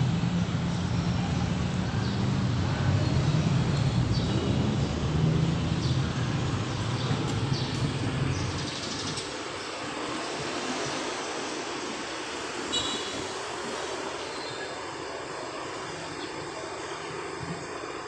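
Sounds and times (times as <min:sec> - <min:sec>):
low rumble of distant traffic: 0:00.0 - 0:18.0.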